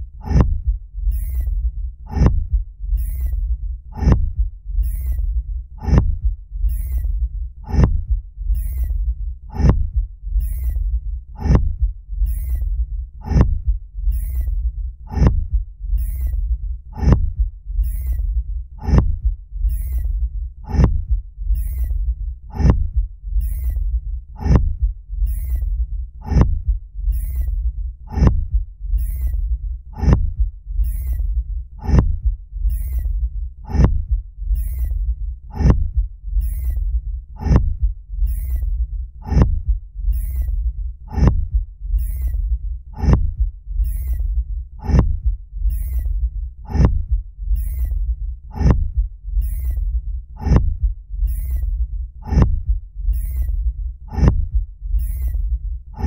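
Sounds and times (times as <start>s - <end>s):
deep rumble: 0.0s - 56.0s
heavy rhythmic thumps: 0.0s - 56.0s.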